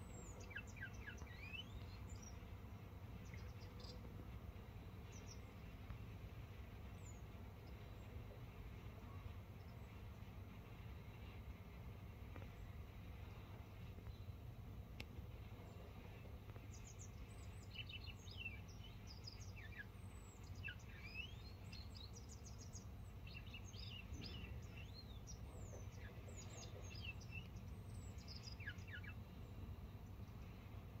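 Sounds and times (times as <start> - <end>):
bird singing faintly: 0.0 - 31.0
low background rumble: 0.0 - 31.0.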